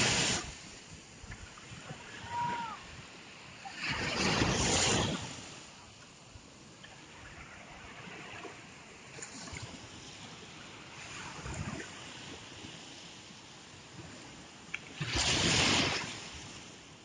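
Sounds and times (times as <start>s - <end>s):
surf surging: 0.0s - 12.6s, 13.8s - 17.0s
waves breaking on shore: 0.0s - 17.0s.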